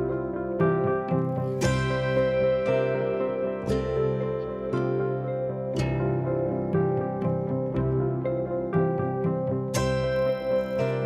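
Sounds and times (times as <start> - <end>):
plucked notes: 0.0 - 11.0
sustained chord tones: 0.0 - 11.0.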